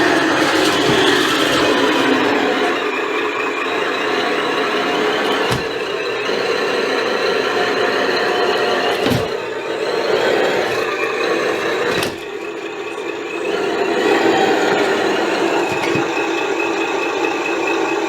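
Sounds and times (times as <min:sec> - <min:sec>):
simulated diesel engine from speaker: 0:00.0 - 0:18.0.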